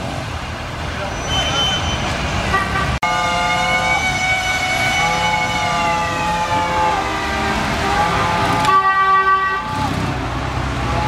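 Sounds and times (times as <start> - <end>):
engines and traffic: 0.0 - 11.0.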